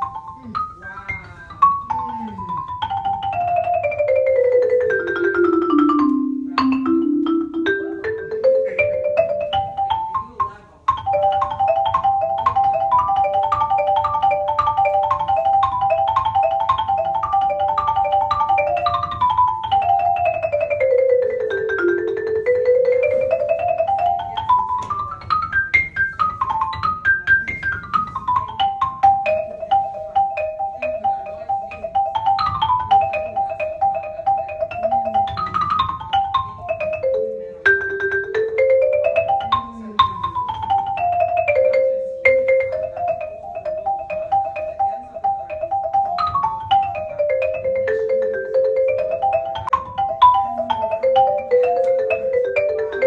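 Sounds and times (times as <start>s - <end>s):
marimba scale runs: 0.0s - 53.0s.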